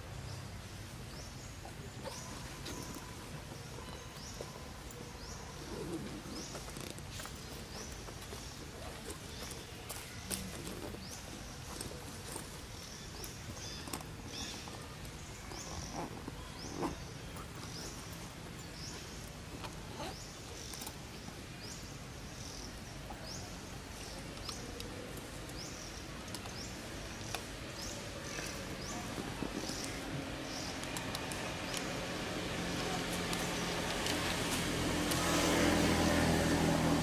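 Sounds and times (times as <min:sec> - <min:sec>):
outdoor background hiss: 0:00.0 - 0:37.0
bird chirping: 0:01.1 - 0:34.4.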